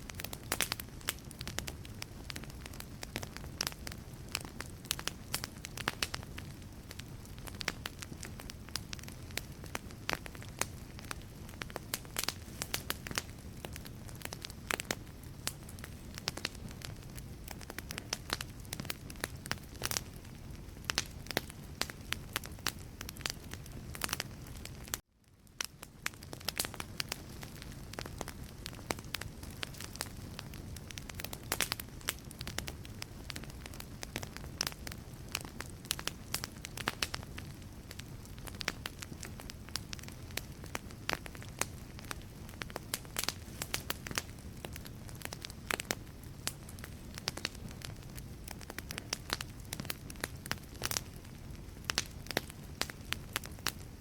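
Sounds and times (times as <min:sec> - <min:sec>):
fire low rumble and hiss: 0:00.0 - 0:54.0
logs crackling and popping: 0:00.0 - 0:54.0.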